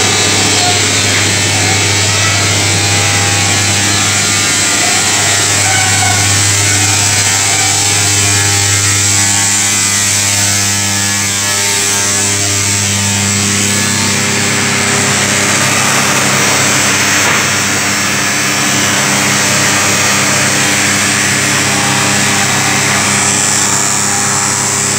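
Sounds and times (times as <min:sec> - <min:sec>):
machine hum of motors and fans: 0:00.0 - 0:24.9.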